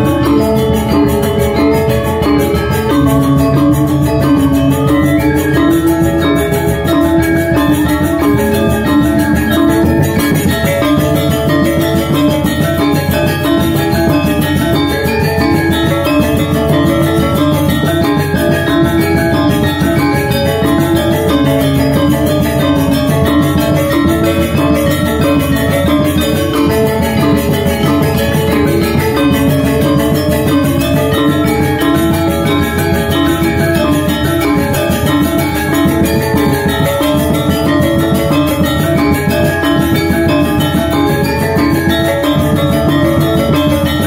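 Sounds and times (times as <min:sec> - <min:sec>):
drums: 0:00.0 - 0:44.0
metallophones ringing struck notes: 0:00.0 - 0:44.0.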